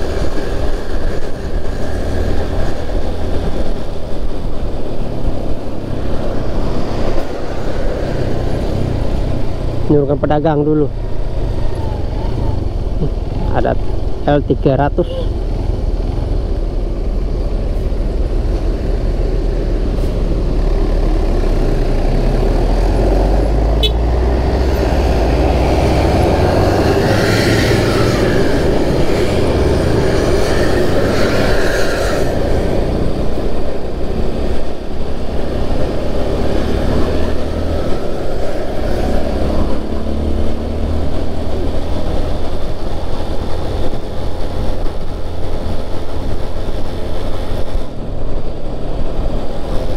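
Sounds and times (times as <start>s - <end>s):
road traffic from moving vehicle: 0.0s - 49.9s
vehicle passing by: 5.7s - 49.9s.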